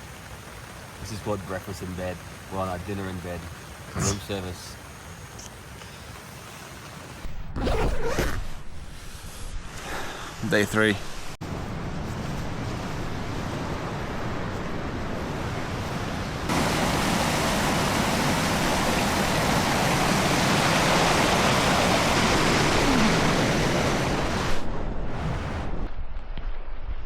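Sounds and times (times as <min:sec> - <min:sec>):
rushing water roar: 0:00.0 - 0:07.3, 0:09.7 - 0:25.7.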